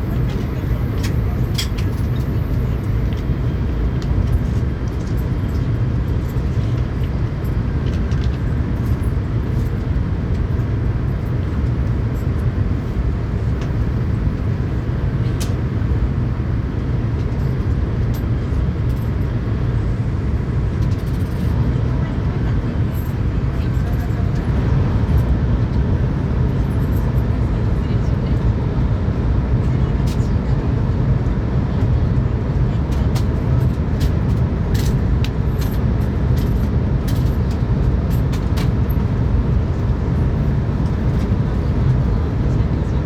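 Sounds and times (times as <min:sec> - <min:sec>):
train rumble inside cabin: 0:00.0 - 0:43.0.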